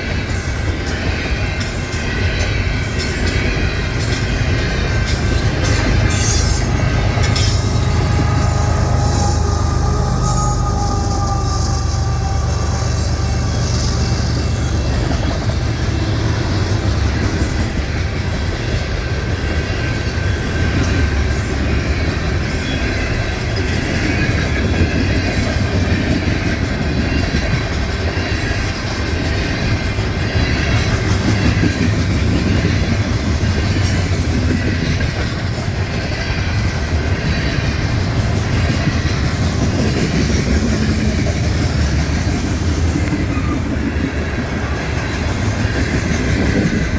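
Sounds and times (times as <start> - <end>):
clickety-clack over rail joints: 0.0 - 46.9
train wheels rumbling on rail: 0.0 - 46.9
high wheel squeaks: 0.9 - 25.0, 25.8 - 46.9.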